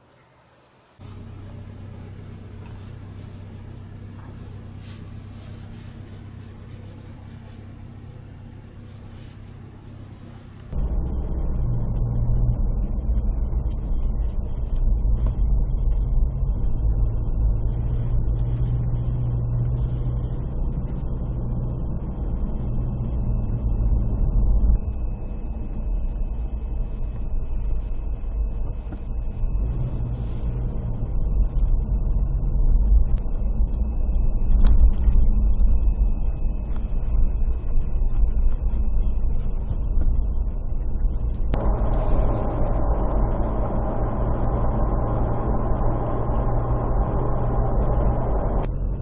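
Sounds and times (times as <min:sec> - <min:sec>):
vehicle engine and road rumble: 0:00.0 - 0:49.0.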